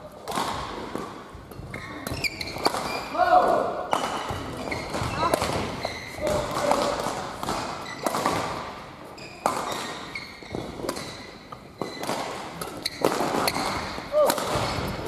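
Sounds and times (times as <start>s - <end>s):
racket hitting shuttlecock: 0.2s - 8.8s, 9.4s - 15.0s
shoes squeaking on court floor: 1.4s - 15.0s.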